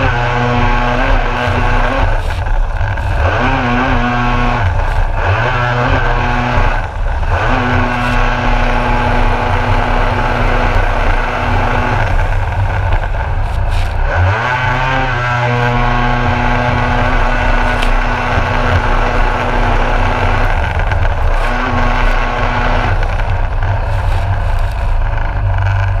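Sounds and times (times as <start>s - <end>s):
jet ski engine revving: 0.0s - 26.0s.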